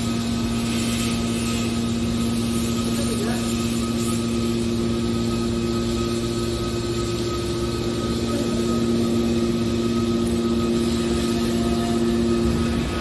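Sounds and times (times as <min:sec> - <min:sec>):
hydraulic baler machine hum: 0:00.0 - 0:13.0.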